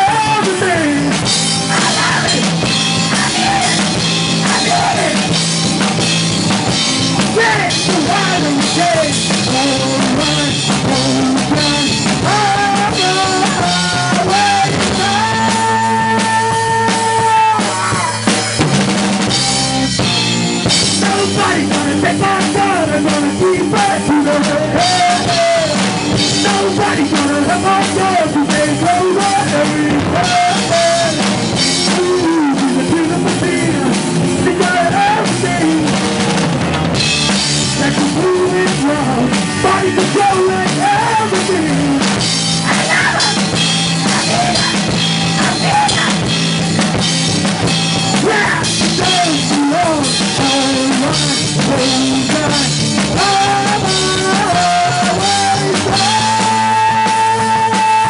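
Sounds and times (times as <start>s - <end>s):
drums and cymbals: 0.0s - 58.0s
electric guitar: 0.0s - 58.0s.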